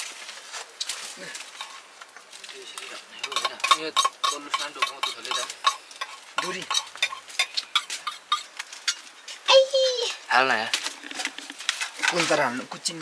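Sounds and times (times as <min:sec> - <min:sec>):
bamboo basket crackling and creaking: 0:00.0 - 0:13.0.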